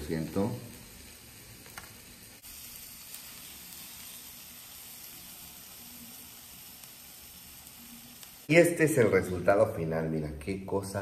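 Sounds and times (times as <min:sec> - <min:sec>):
high-pitched hiss: 0:00.0 - 0:09.8.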